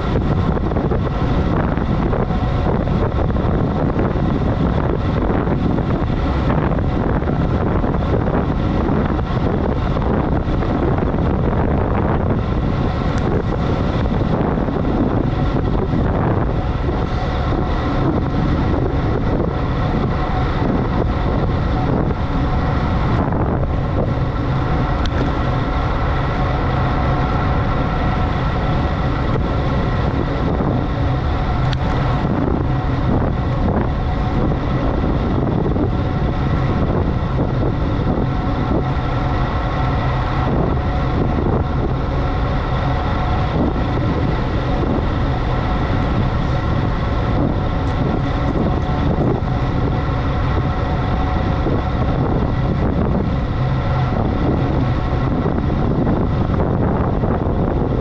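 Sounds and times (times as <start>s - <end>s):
steady multi-tone hum: 0.0s - 58.0s
wind rushing over microphone: 0.0s - 58.0s.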